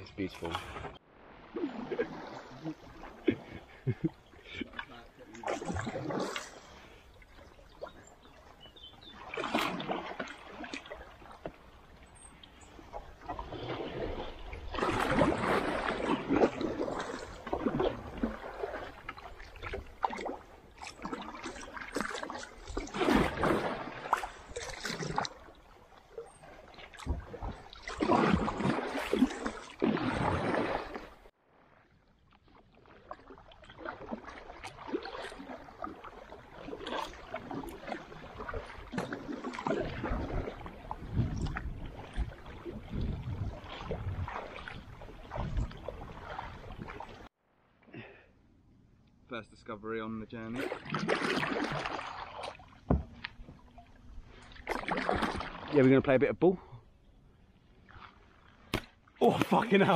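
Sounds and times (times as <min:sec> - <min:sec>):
kayak paddle splashing water: 0:00.0 - 0:48.3, 0:50.4 - 0:56.2, 0:56.8 - 0:59.9.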